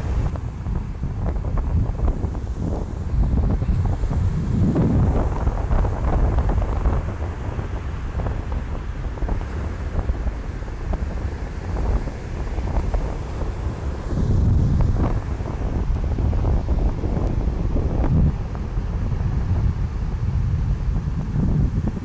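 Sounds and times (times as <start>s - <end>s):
ocean surf breaking on beach: 0.0s - 22.0s
wind buffeting microphone: 0.0s - 22.0s.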